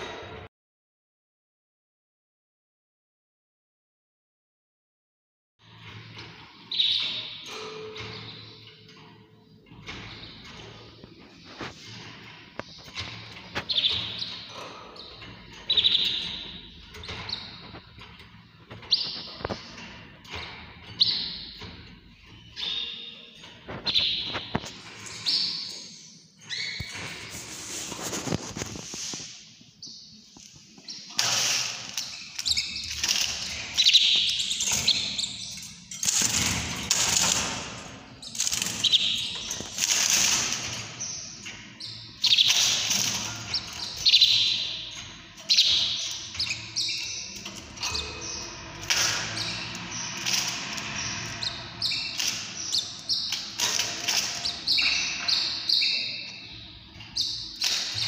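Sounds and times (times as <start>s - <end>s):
songbirds chirping: 5.7s - 58.0s.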